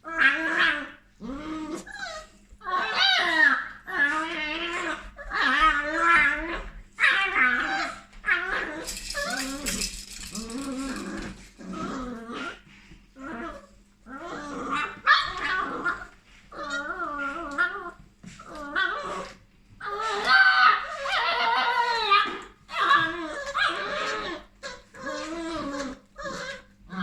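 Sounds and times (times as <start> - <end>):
puppy growling and whining: 0.0 - 27.0.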